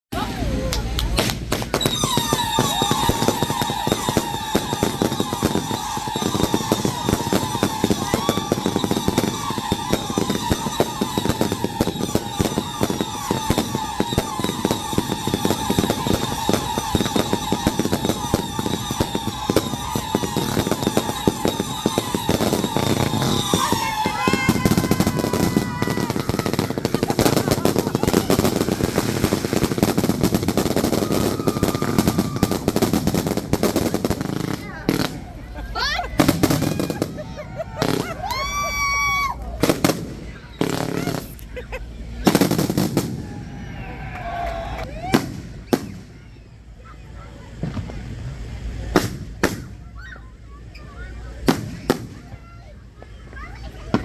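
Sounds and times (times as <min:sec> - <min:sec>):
fireworks crackling pops and bangs: 0:00.2 - 0:54.0
high firework whistle: 0:01.2 - 0:35.2, 0:36.2 - 0:41.4, 0:42.3 - 0:46.5.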